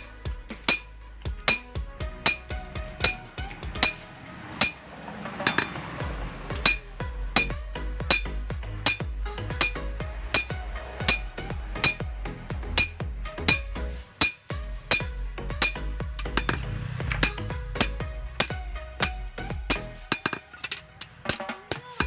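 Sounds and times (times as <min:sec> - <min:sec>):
hammer striking metal on anvil: 0:00.0 - 0:22.0.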